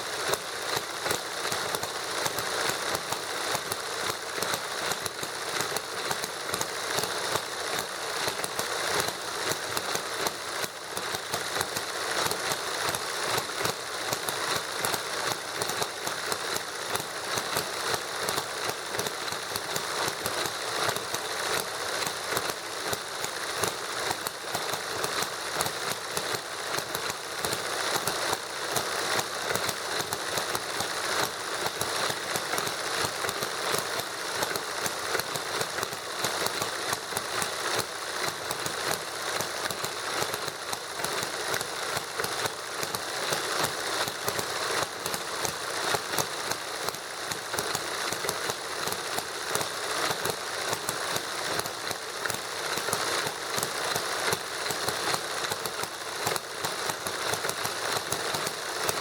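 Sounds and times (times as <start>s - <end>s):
model engines clattering: 0.0s - 59.0s.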